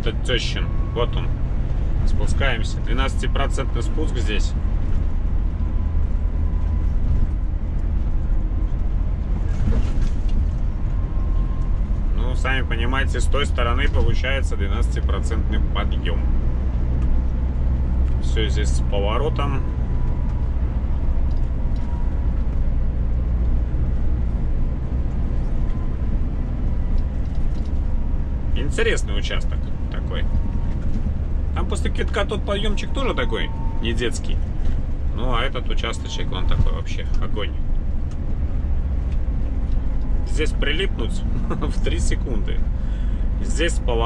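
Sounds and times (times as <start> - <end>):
road noise: 0.0 - 44.0
truck engine rumble: 0.0 - 44.0.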